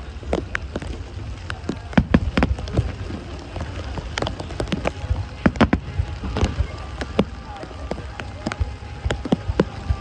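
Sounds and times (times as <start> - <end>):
raindrops clicking on surface: 0.0 - 10.0.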